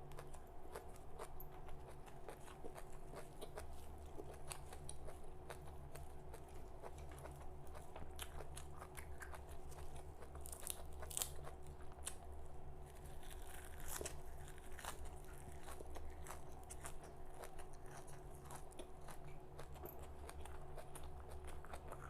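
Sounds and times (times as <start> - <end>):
steady low hum: 0.0 - 22.0
crunching raw vegetables: 0.1 - 22.0.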